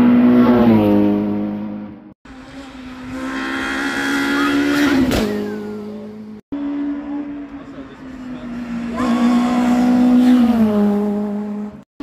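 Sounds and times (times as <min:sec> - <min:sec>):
rally car engines at high revs: 0:00.0 - 0:11.9.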